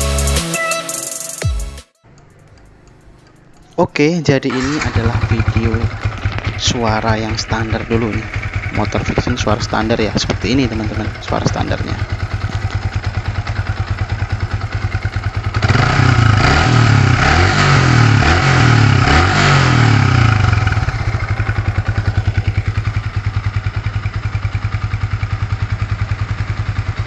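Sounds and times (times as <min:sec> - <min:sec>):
motorcycle engine revving: 0:02.0 - 0:27.0.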